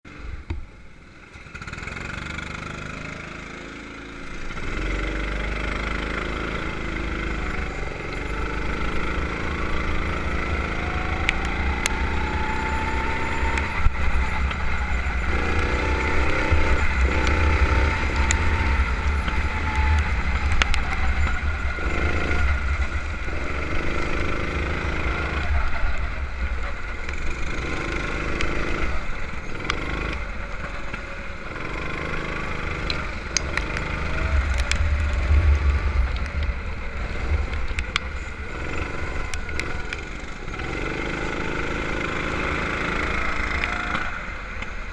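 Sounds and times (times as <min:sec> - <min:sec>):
go-kart engine revving: 0:00.1 - 0:44.9.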